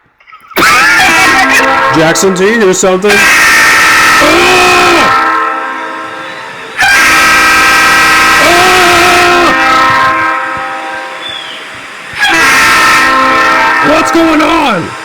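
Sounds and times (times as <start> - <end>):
train horn chord: 0.6 - 15.0.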